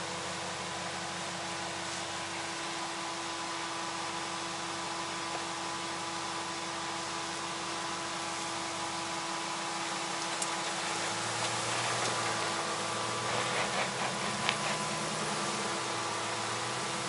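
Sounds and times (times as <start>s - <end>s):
deep engine hum: 0.0s - 17.0s
truck engine at low revs: 0.0s - 17.0s.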